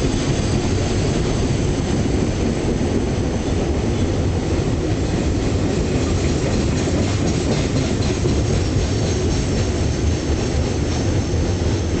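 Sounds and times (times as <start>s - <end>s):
freight train rumbling past: 0.0s - 12.0s
steel wheels clattering on rails: 0.0s - 12.0s.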